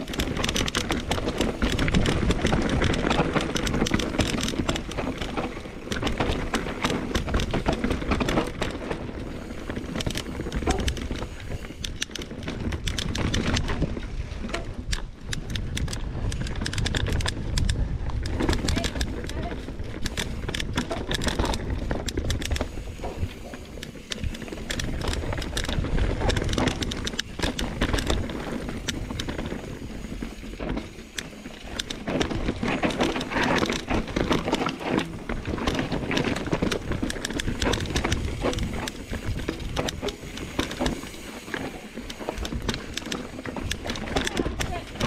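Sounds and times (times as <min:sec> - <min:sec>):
wind rumble on microphone: 0:00.0 - 0:30.8, 0:31.8 - 0:41.5
bike clattering and rattling: 0:00.0 - 0:45.0
bike tyres rolling: 0:00.0 - 0:45.0.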